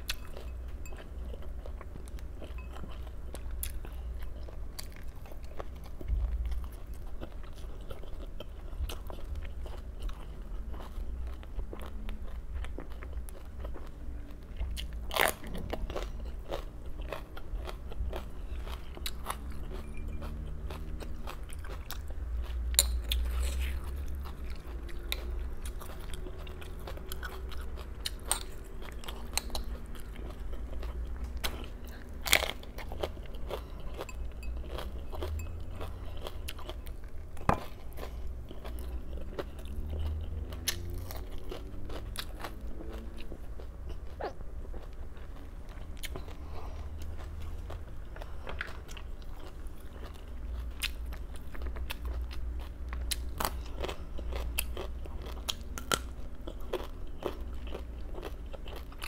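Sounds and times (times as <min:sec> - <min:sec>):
crunchy vegetables being chewed: 0:00.0 - 0:59.0.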